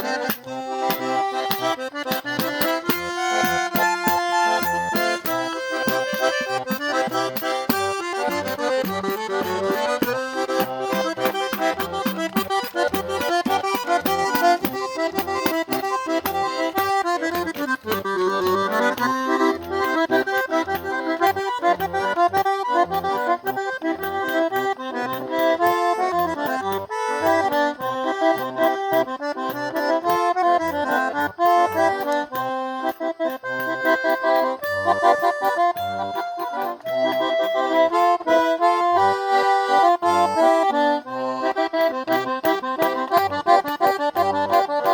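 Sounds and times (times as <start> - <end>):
button accordion playing a tune: 0.0 - 44.9.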